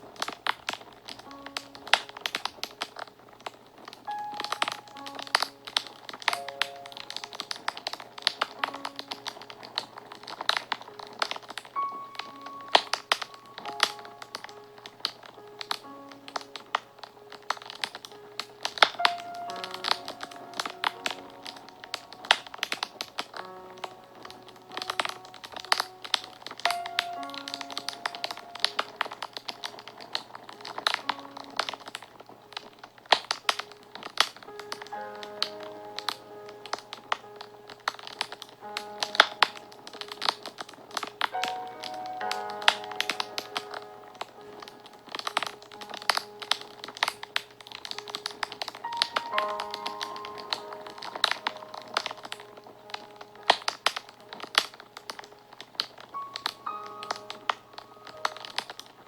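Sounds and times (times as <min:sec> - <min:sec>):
soft music of slow held notes: 0:00.0 - 0:59.0
wood fire crackling and popping: 0:00.0 - 0:59.0.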